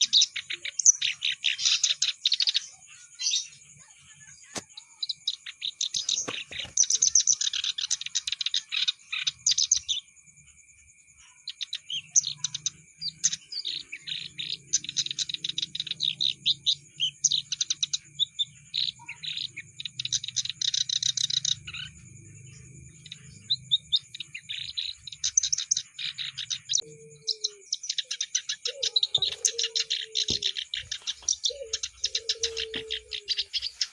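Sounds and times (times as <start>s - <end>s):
reed warbler singing: 0.0s - 33.9s.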